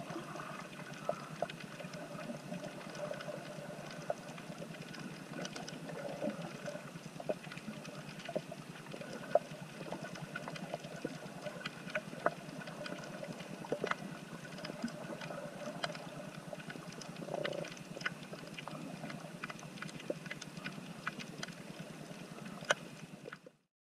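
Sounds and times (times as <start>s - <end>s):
steady low hum: 0.0s - 23.6s.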